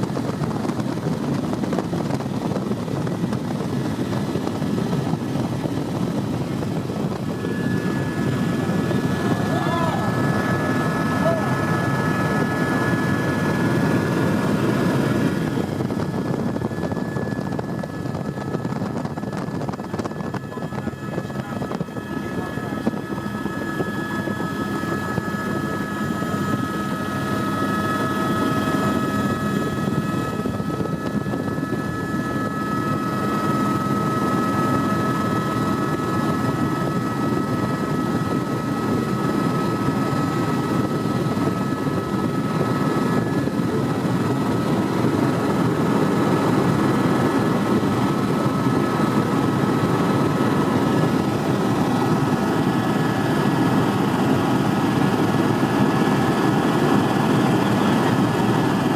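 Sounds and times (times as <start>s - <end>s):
helicopter rotor and engine: 0.0s - 58.9s.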